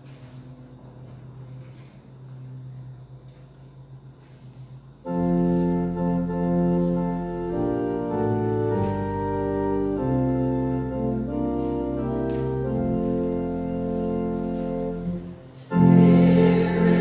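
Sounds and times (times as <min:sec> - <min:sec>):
church organ slow chords: 0:00.0 - 0:17.0.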